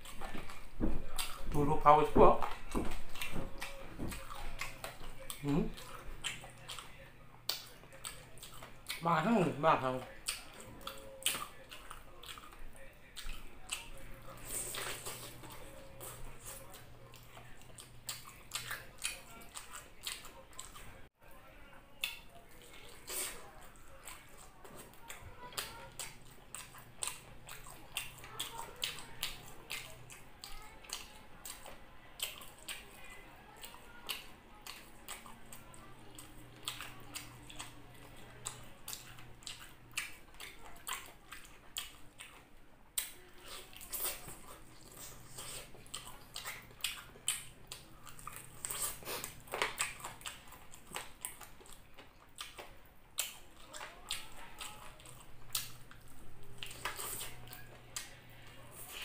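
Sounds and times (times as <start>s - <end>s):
open-mouthed chewing: 0.0s - 21.2s, 21.9s - 59.0s.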